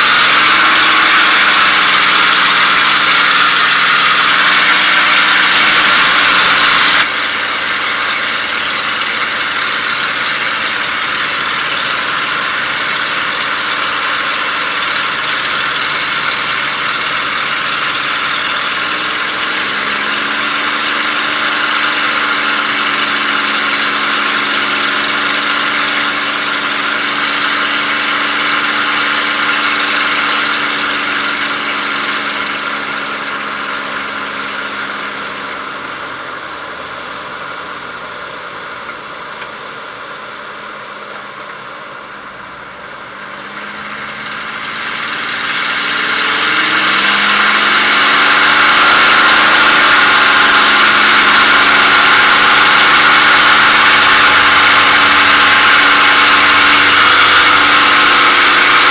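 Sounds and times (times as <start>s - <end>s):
aircraft engine drone: 0.0s - 58.9s.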